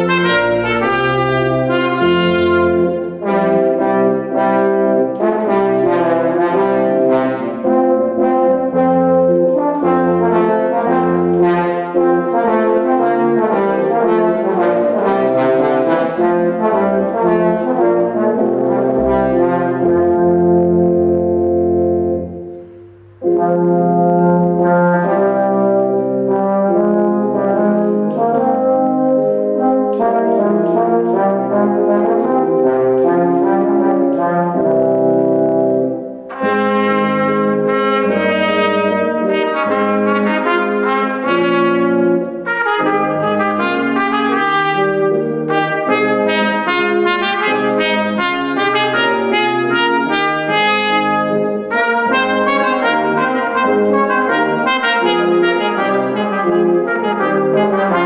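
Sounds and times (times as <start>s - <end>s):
organ chords: 0.0s - 58.0s
tenor horn: 0.0s - 58.0s
trumpet: 0.0s - 58.0s.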